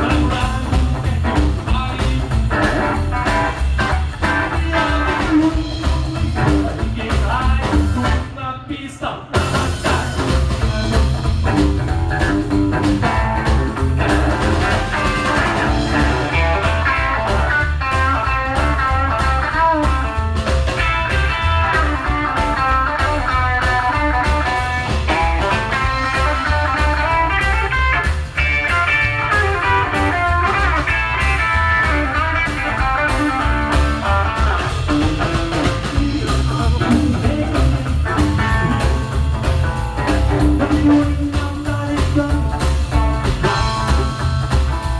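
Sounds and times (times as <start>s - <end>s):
busy guitar line: 0.0s - 8.6s, 9.2s - 44.9s
rock band playing: 0.0s - 8.6s, 9.2s - 44.9s.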